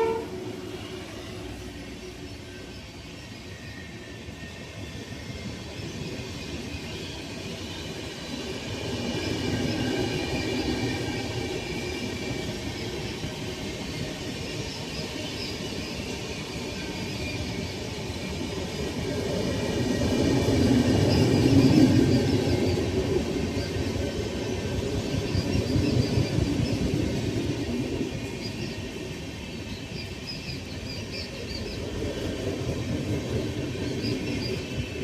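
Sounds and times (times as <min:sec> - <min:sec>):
train rumbling on rails: 0:00.0 - 0:35.0.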